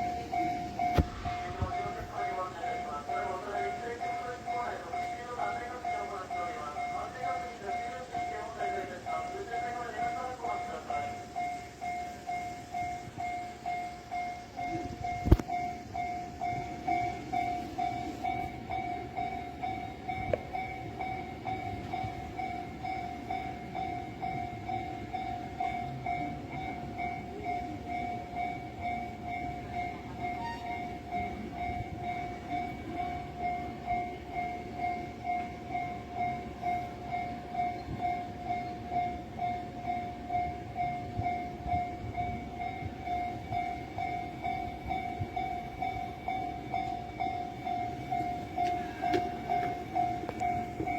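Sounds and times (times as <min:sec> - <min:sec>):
level-crossing bell dinging: 0:00.0 - 0:50.9
train rumbling past: 0:00.0 - 0:50.9.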